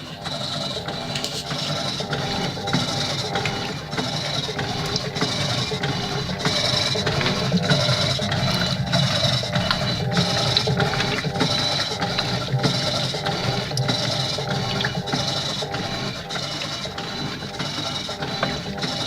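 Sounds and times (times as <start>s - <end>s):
washing machine churning: 0.0s - 19.0s.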